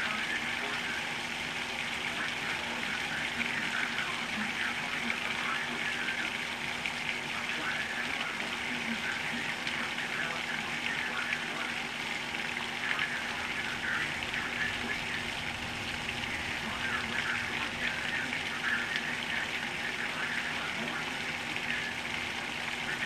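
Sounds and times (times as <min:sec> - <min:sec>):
torrential rain pouring: 0:00.0 - 0:23.0.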